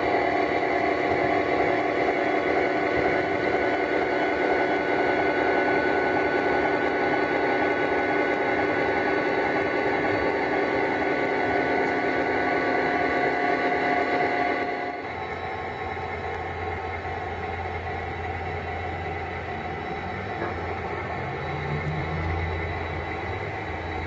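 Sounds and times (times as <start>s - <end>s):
model train rumbling past: 0.0s - 24.0s.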